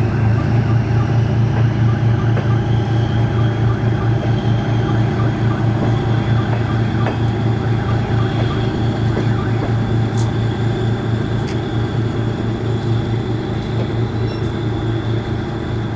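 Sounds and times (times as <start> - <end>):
train diesel engine drone: 0.0 - 15.9.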